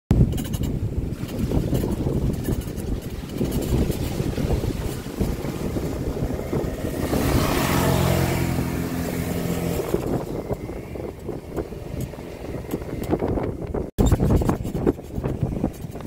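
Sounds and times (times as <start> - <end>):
wind buffeting microphone: 0.1 - 16.0
atv engine running: 1.8 - 16.0.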